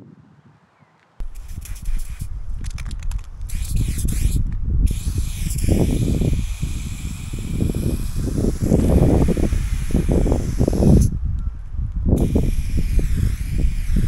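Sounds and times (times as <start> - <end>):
wind rumble on microphone: 0.0 - 14.0
aerosol can spraying: 1.2 - 11.2, 12.2 - 14.0.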